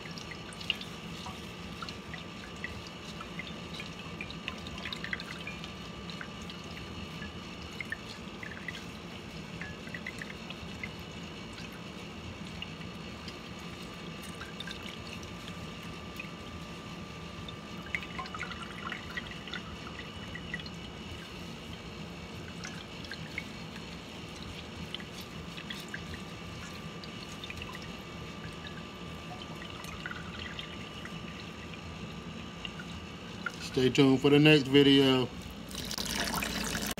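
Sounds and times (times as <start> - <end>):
liquid dripping into a pot: 0.0 - 33.7, 35.6 - 36.9
steady background hum: 0.0 - 36.9.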